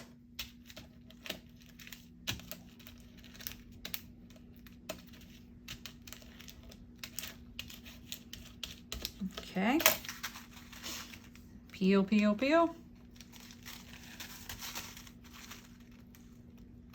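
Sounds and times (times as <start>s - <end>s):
card stock rustling: 0.0s - 11.7s, 12.9s - 16.9s
steady low hum: 0.0s - 16.9s.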